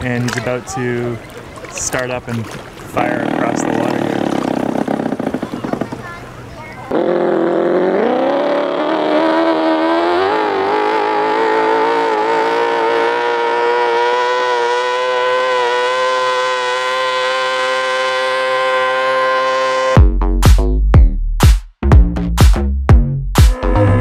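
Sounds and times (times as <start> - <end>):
boat engine revving: 0.0 - 20.0.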